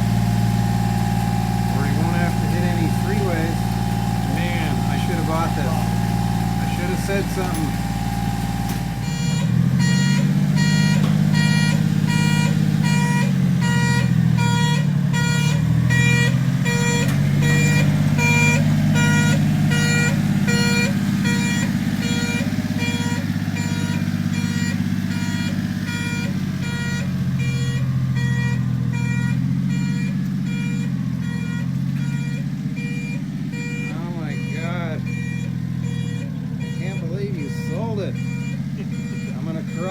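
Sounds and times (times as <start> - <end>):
electronic reversing beeper: 0.0 - 39.9
small truck engine running: 0.0 - 39.9.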